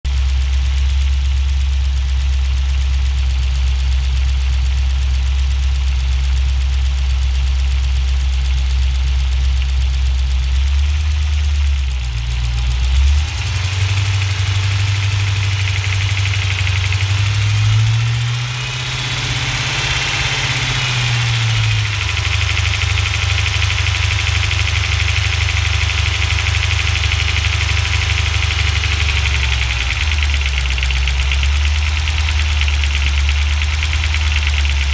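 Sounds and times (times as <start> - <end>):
engine ticking knock: 0.0 - 34.9
car engine idling and revving: 0.1 - 34.9.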